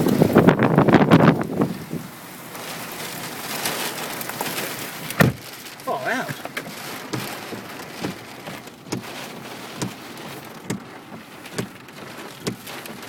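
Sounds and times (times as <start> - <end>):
storm rain and wind: 0.0 - 13.0.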